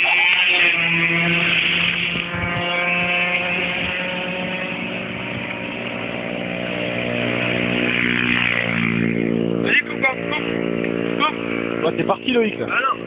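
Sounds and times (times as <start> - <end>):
engine buzzing drone: 0.0 - 13.0.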